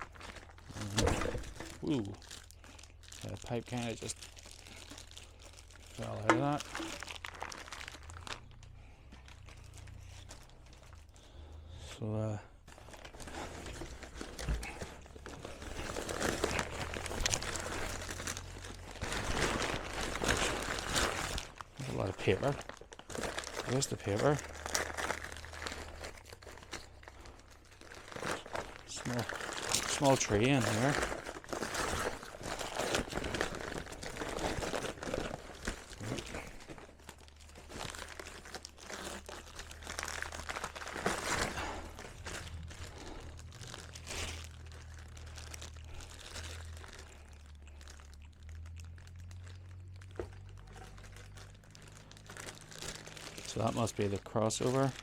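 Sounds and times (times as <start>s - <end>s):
packing paper crumpling: 0.0s - 11.5s, 12.6s - 55.0s.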